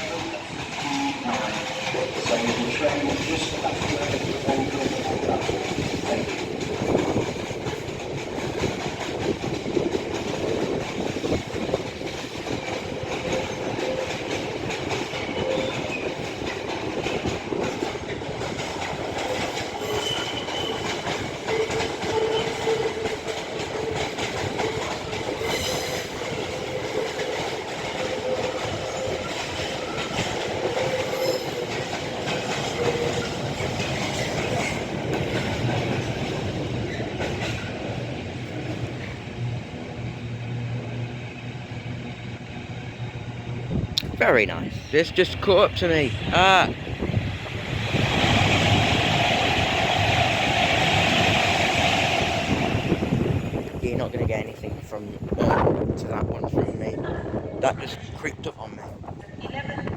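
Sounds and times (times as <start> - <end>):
train wheels rolling: 0.0 - 55.9
clickety-clack over rail joints: 0.0 - 59.9.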